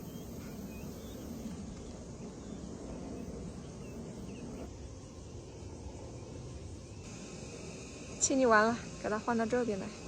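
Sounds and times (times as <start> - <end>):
low outdoor background noise: 0.0 - 10.0.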